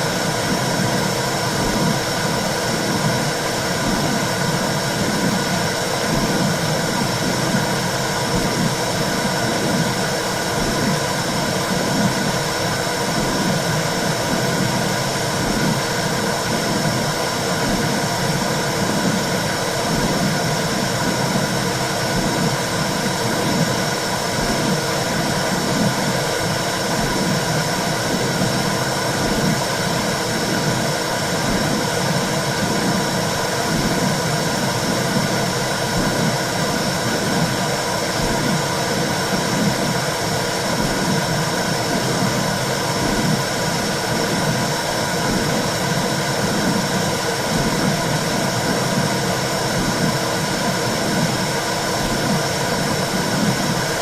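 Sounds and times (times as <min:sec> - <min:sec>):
soft heartbeat-like pulsing: 0:00.1 - 0:54.0.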